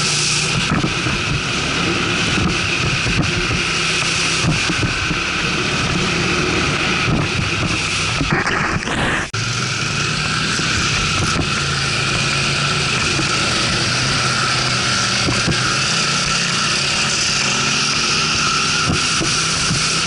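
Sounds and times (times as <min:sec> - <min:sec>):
wind noise on microphone: 0:00.0 - 0:09.4, 0:10.5 - 0:20.0
atv engine running: 0:00.0 - 0:20.0.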